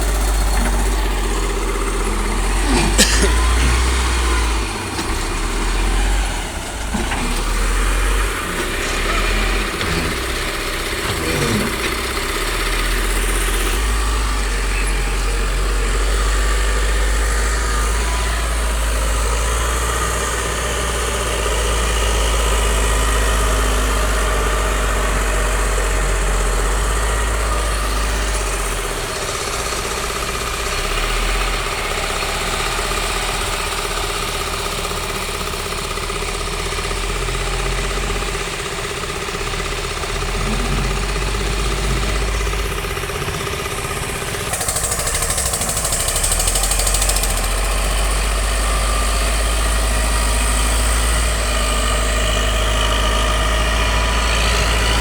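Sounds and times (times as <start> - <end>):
heavy vehicle engine idling: 0.0 - 55.0.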